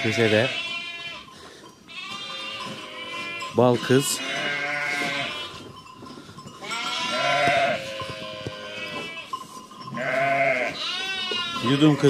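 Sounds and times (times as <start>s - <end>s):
sheep bleating: 0.0s - 1.3s, 1.9s - 5.6s, 6.6s - 9.4s, 10.0s - 12.0s.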